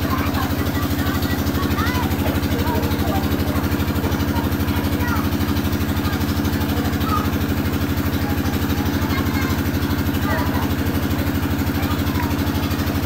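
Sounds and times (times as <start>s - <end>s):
small engine running steadily: 0.0s - 13.0s.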